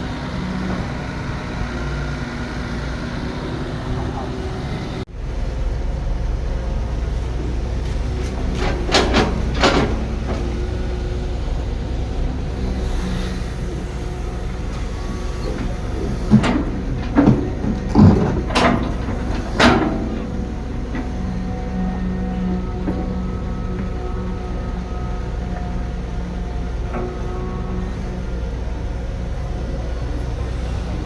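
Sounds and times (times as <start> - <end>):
diesel construction machinery running: 0.0 - 31.0.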